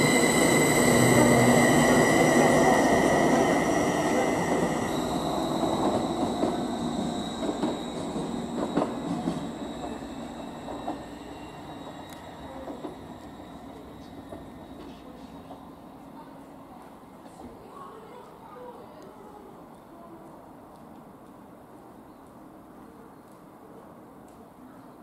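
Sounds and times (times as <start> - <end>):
train whine and rumble: 0.0 - 25.0.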